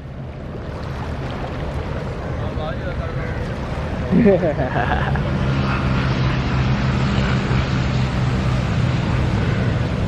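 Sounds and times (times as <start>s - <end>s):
jet airliner engines rushing: 1.6s - 10.0s.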